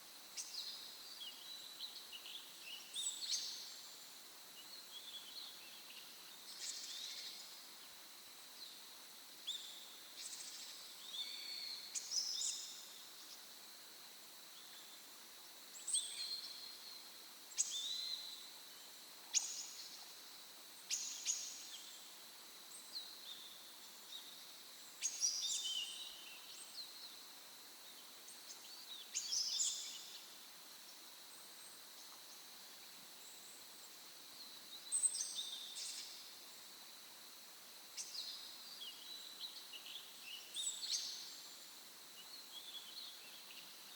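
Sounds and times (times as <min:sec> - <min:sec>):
faint steady hiss: 0:00.0 - 0:43.9
songbirds chirping: 0:00.0 - 0:43.9.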